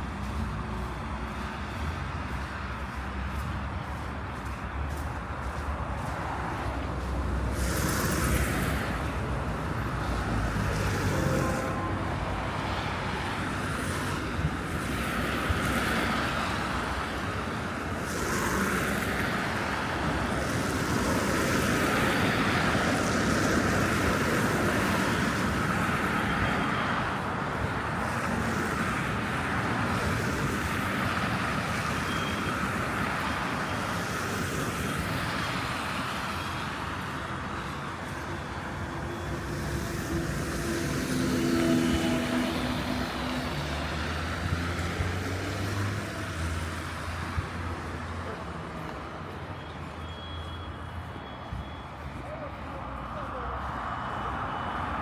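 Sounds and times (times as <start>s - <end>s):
cars driving on snowy roads: 0.0s - 55.0s.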